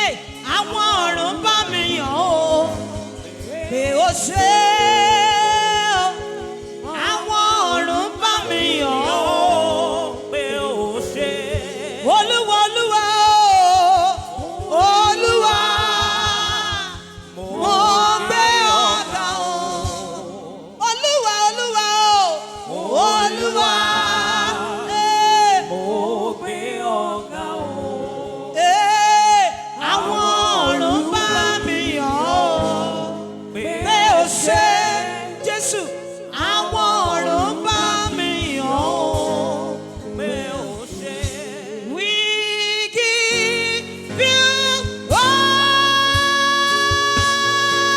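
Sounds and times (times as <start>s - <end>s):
person singing gospel: 0.0s - 47.9s.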